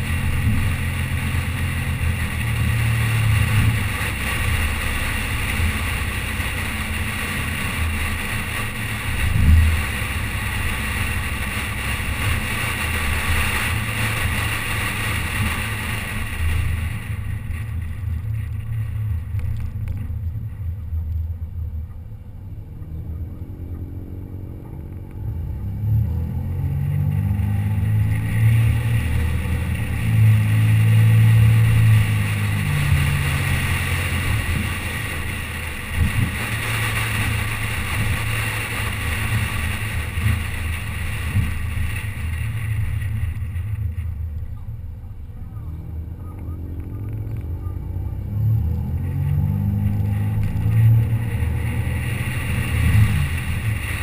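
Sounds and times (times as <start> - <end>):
car engine running: 0.0 - 54.0
road and wind noise: 0.0 - 54.0.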